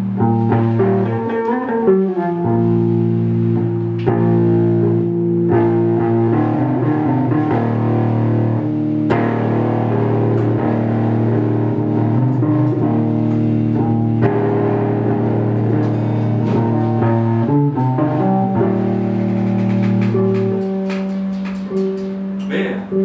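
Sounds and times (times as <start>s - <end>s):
guitar playing slow chords: 0.0s - 23.0s.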